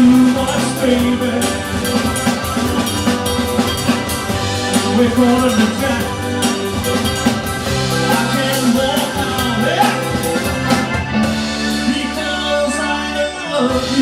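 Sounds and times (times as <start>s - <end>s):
rock and roll band playing: 0.0s - 14.0s.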